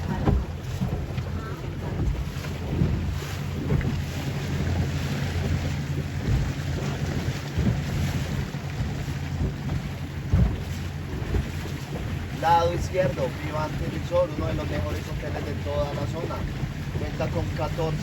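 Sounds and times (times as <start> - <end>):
motorboat engine humming: 0.0 - 18.0
wind buffeting microphone: 0.0 - 18.0.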